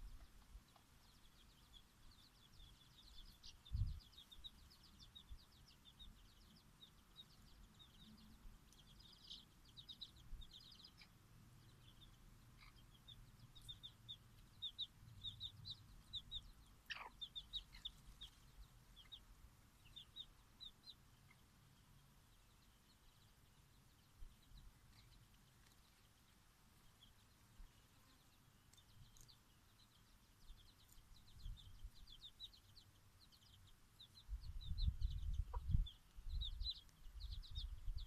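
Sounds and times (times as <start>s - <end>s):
chicks peeping: 0.0s - 38.0s.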